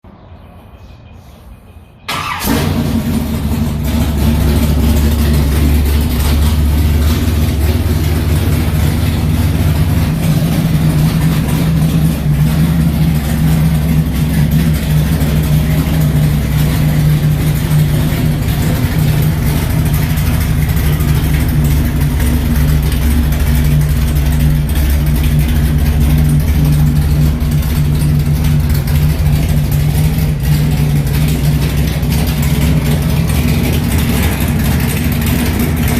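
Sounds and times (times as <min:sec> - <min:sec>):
engine idling with deep rumble: 0:00.2 - 0:35.9.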